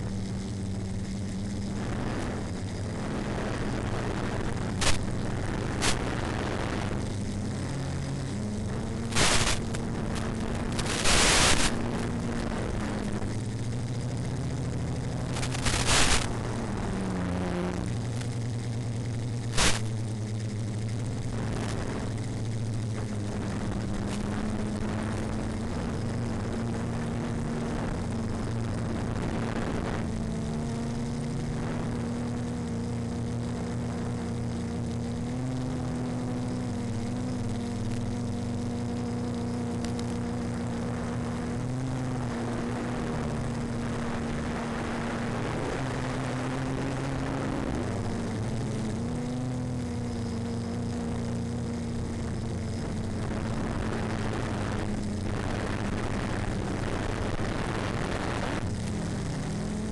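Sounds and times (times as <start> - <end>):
model aircraft propeller droning: 0.0 - 59.9
wind noise: 0.0 - 59.9.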